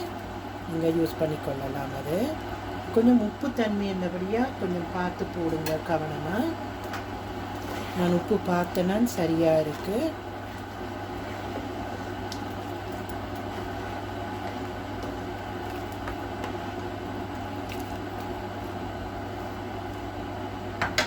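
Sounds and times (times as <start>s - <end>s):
kitchen appliance humming: 0.0s - 21.0s.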